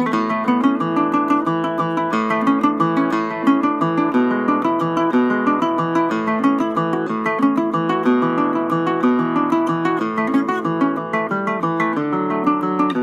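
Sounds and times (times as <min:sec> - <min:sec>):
fast plucked guitar melody: 0:00.0 - 0:13.0.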